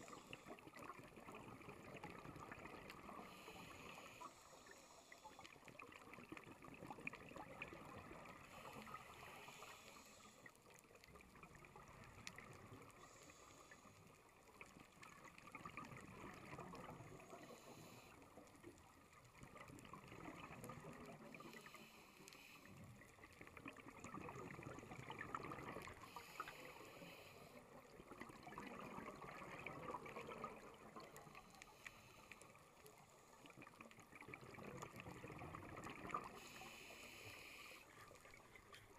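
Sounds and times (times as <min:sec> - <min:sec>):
muffled underwater wash: 0:00.0 - 0:38.9
small underwater clicks: 0:00.0 - 0:38.9.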